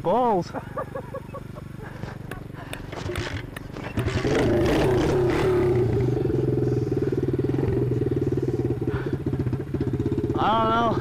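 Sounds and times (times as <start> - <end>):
motorbike engine revving: 1.0 - 11.0.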